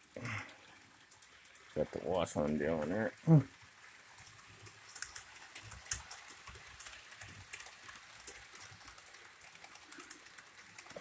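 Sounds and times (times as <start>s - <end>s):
model train wheels rattling on track: 0.0s - 11.0s.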